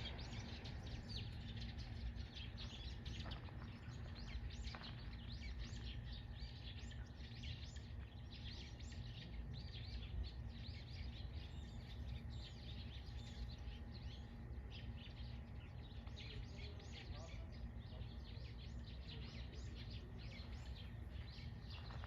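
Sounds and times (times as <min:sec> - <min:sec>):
low background rumble: 0:00.0 - 0:22.0
songbirds chirping: 0:00.0 - 0:22.0.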